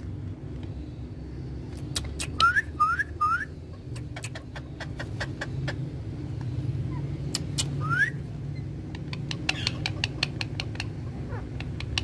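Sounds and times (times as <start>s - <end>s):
parakeets chirping: 1.6s - 12.0s.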